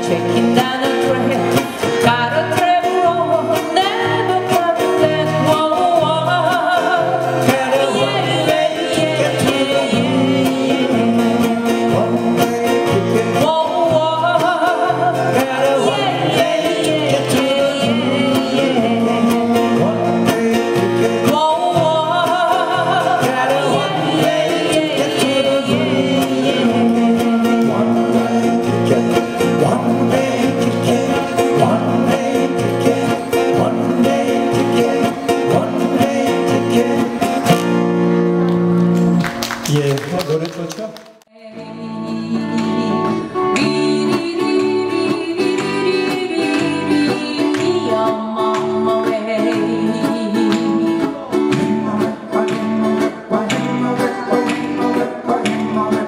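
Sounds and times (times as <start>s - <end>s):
people singing into microphones: 0.0s - 38.2s, 41.4s - 56.0s
acoustic guitars strumming: 0.0s - 40.7s, 41.4s - 56.0s.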